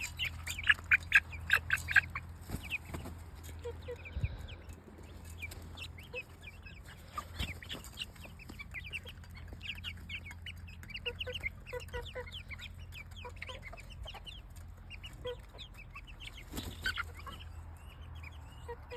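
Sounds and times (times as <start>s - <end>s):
low cluck: 0.0s - 17.6s
chicks peeping: 0.0s - 18.9s.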